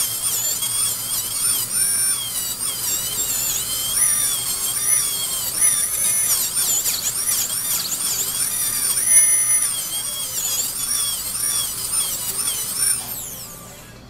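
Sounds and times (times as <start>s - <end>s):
dental drill whining: 0.0s - 14.0s.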